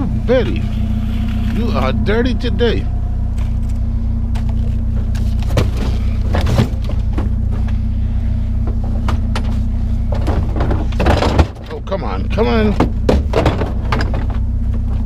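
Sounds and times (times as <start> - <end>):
scrap clunking: 0.0 - 15.0
truck engine idling: 0.0 - 15.0.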